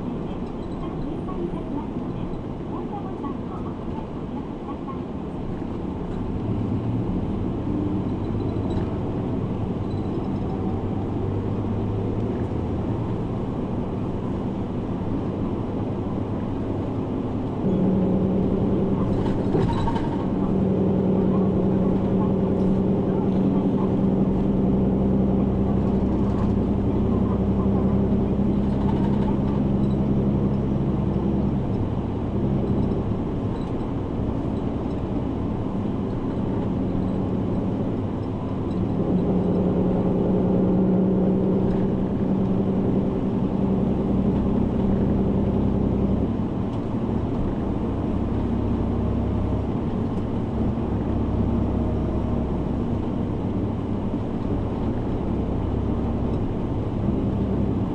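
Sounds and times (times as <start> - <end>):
bus engine and road drone: 0.0 - 57.9.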